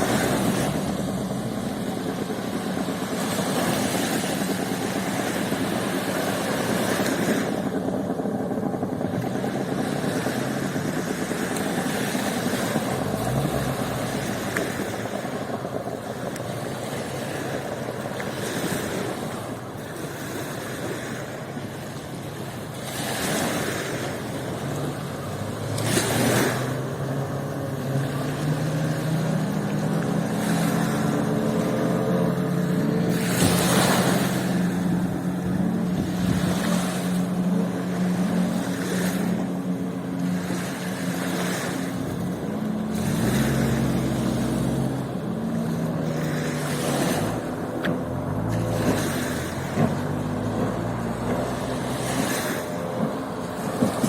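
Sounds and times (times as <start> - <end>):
engine running: 0.0 - 54.0
waves washing on sandy beach: 0.0 - 54.0.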